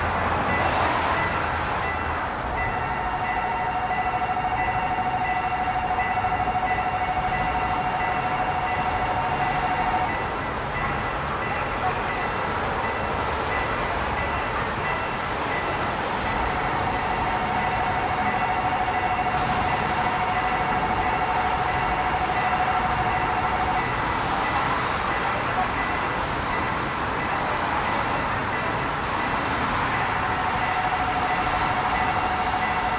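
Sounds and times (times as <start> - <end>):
crossing warning signal tone: 0.0 - 32.9
train rumbling: 0.0 - 32.9.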